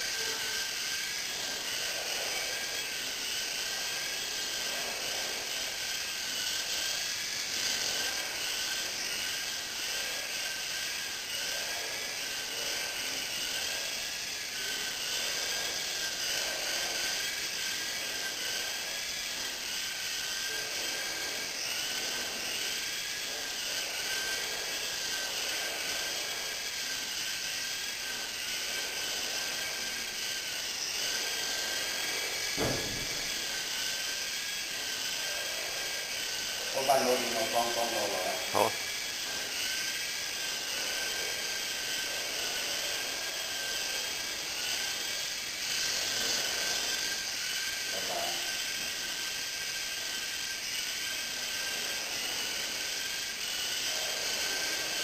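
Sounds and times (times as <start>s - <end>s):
rc helicopter motor whine: 0.0s - 55.0s
rotor buzz: 0.0s - 55.0s.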